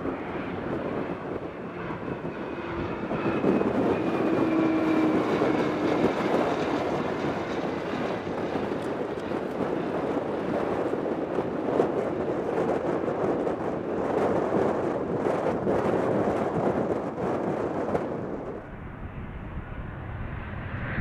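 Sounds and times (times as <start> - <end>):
jet engines roaring past: 0.0 - 21.0.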